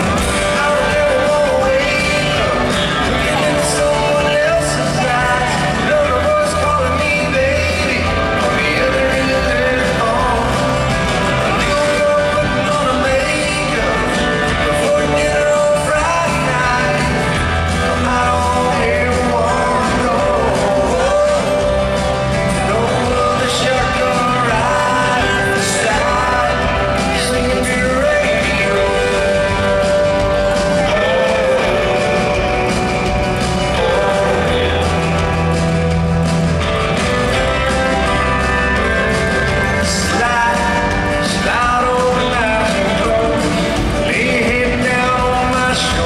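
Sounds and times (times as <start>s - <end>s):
live country band playing: 0.0s - 46.0s
man singing: 0.0s - 46.0s.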